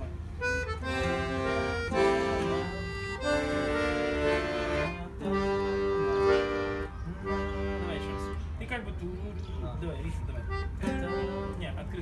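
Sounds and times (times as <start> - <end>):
dombra strumming: 0.0 - 8.5, 10.5 - 11.8
accordion chords: 0.0 - 12.0.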